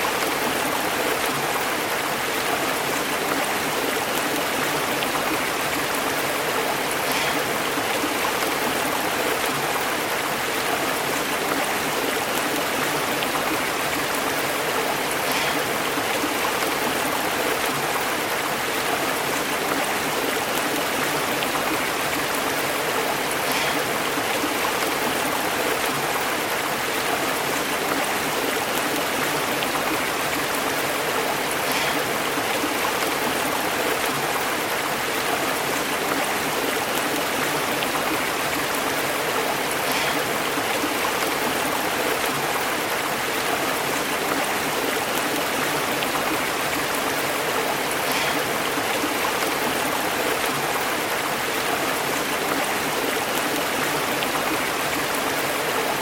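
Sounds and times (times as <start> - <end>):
stream burbling over rocks: 0.0 - 56.0.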